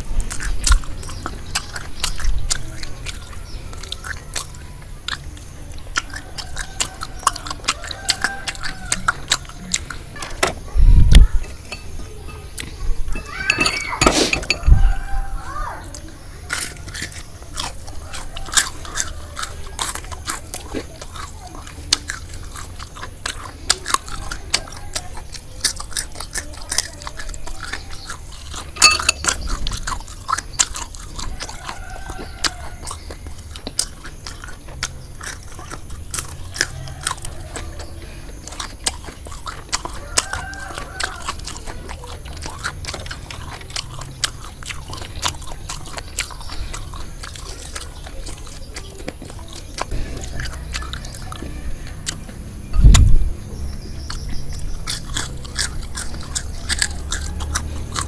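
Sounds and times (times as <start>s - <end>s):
crunching and chewing fried food: 0.0s - 58.0s.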